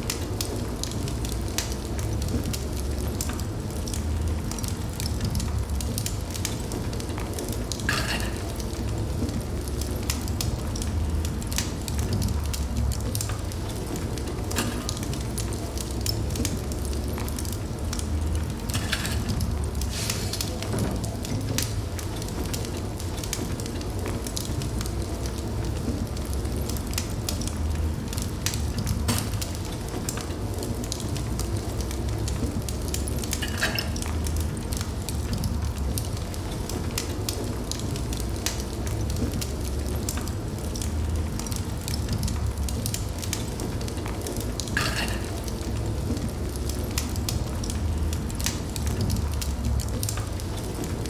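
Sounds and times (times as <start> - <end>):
fire rumbling: 0.0 - 51.0
wood fire crackling and popping: 0.0 - 51.0.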